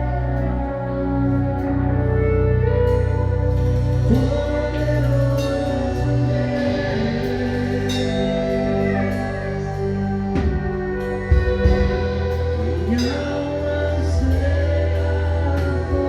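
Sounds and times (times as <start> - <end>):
band playing slow gospel song: 0.0 - 16.0
singing: 0.0 - 16.0.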